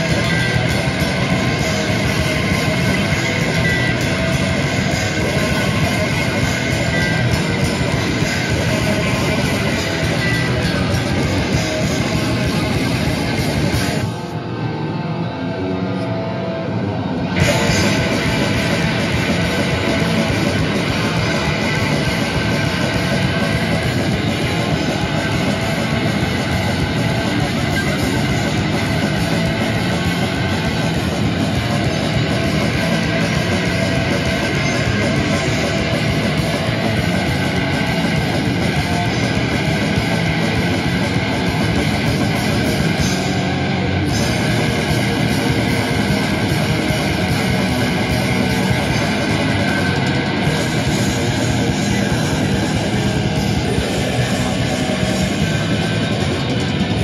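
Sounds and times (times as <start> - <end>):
loud live metal band: 0.0 - 57.0.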